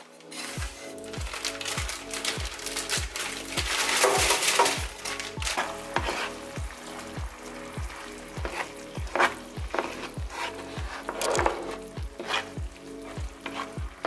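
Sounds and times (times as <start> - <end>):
food sizzling in a pan: 0.0 - 14.0
background music with bass beat: 0.5 - 14.0.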